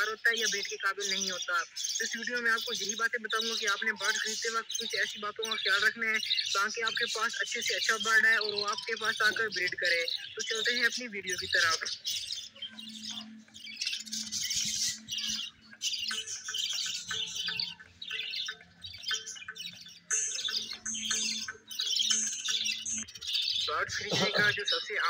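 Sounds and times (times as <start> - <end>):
budgerigars chattering and chirping: 0.0 - 25.0.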